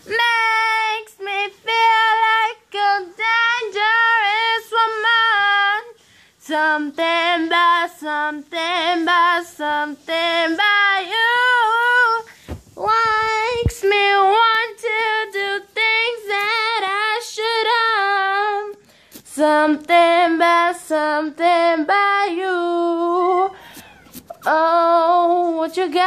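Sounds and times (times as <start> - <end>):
woman singing unaccompanied: 0.0 - 26.0.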